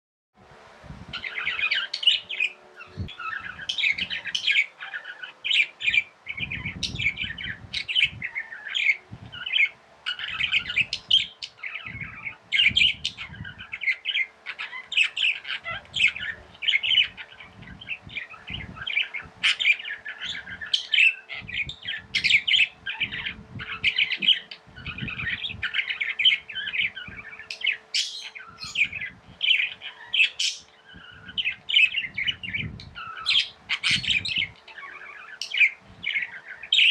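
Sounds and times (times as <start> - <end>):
faint steady hum: 0.4 - 36.9
parrots chirping and chattering: 1.1 - 36.9.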